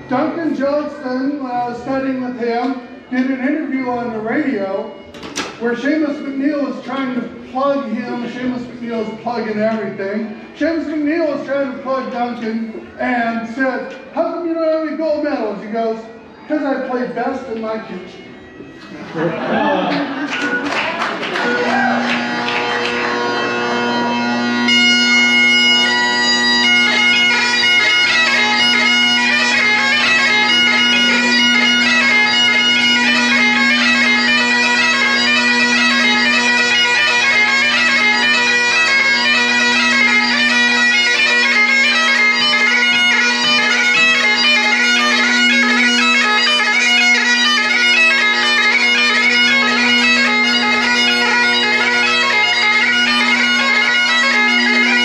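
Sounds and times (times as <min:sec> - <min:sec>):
bagpipe chanter melody: 0:00.0 - 0:55.0
bagpipe drones: 0:00.0 - 0:55.0.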